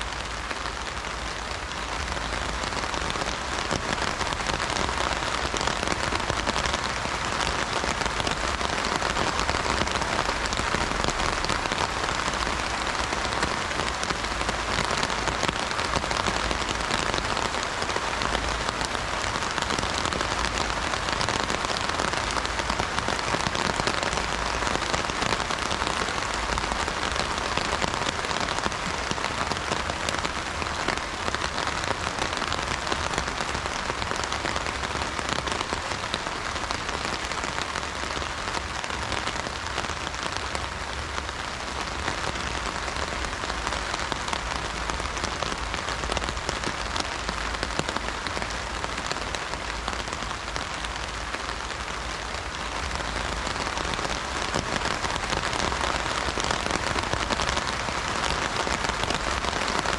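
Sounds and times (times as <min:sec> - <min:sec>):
heavy rain on umbrella: 0:00.0 - 0:59.9.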